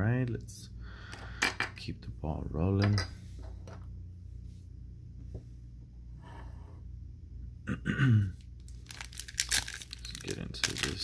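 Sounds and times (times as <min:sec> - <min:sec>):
low hum: 0:00.0 - 0:10.3.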